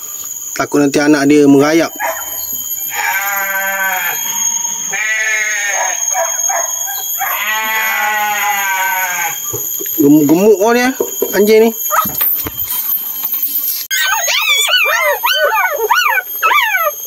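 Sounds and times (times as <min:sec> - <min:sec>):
puppies crying: 0:01.9 - 0:10.0, 0:11.2 - 0:17.0.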